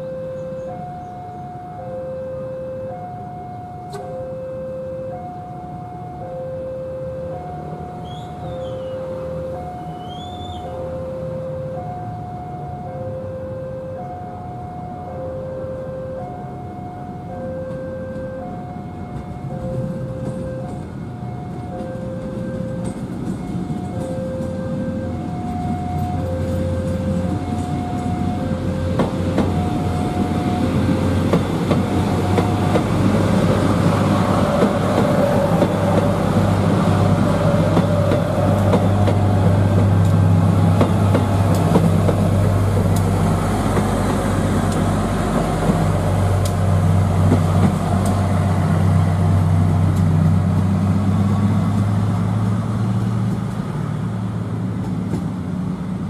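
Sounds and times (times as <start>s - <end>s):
two-note alternating tone: 0.0s - 47.4s
diesel train drone: 0.0s - 56.0s
wheel and rail noise: 0.0s - 56.0s.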